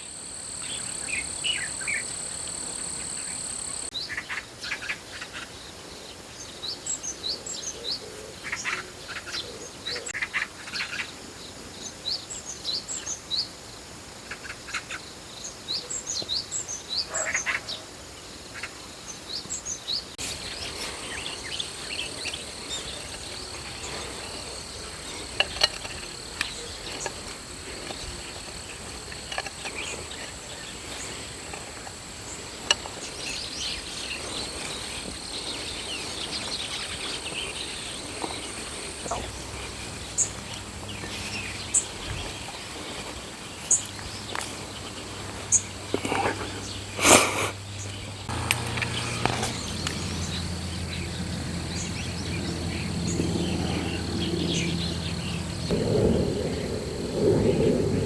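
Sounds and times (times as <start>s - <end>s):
insect trill: 0.0s - 4.0s, 11.7s - 47.0s, 47.8s - 58.0s
small birds chirping: 0.0s - 13.6s, 18.5s - 57.8s.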